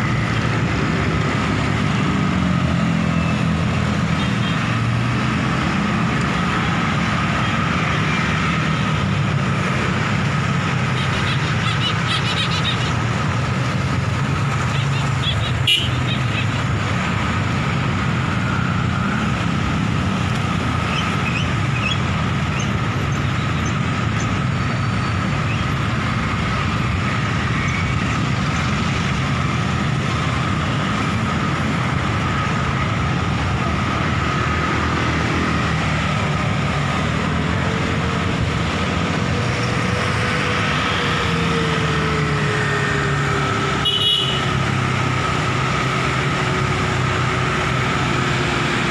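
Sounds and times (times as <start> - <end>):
scooter and car engines: 0.0 - 48.9.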